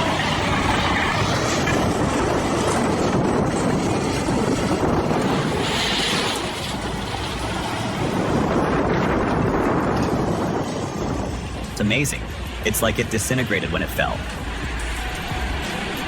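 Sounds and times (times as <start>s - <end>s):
heavy machine rumbling: 0.0s - 16.0s.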